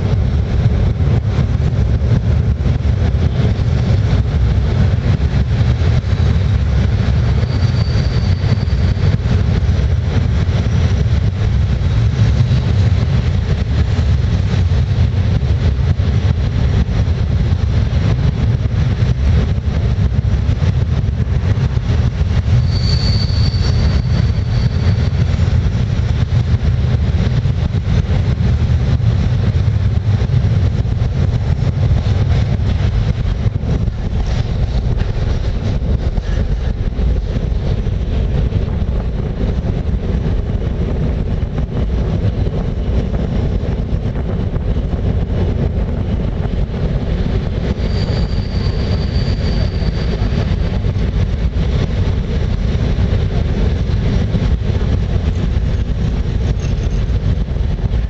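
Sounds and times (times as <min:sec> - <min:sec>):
train wheels rumbling on bridge: 0:00.0 - 0:58.0.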